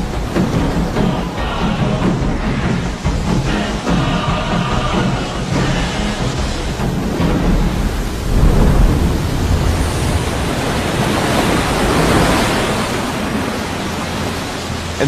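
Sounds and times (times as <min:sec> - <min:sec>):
volcano eruption rumble: 0:00.0 - 0:13.7
water and spray hissing: 0:00.0 - 0:15.0.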